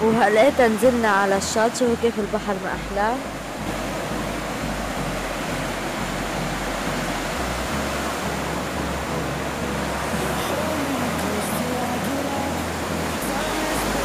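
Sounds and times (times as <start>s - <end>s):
sea waves washing on beach: 0.0s - 14.0s.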